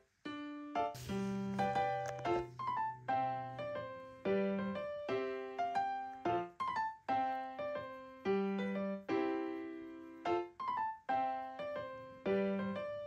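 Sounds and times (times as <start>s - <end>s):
slow piano-like keyboard tune: 0.0s - 13.0s.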